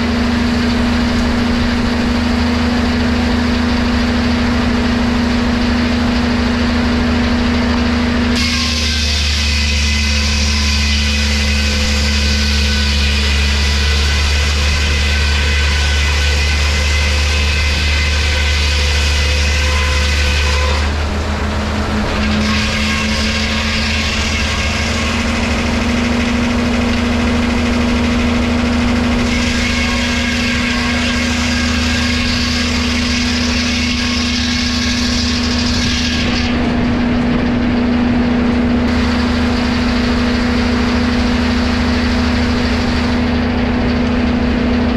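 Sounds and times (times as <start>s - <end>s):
woodworking machinery humming: 0.0s - 44.9s.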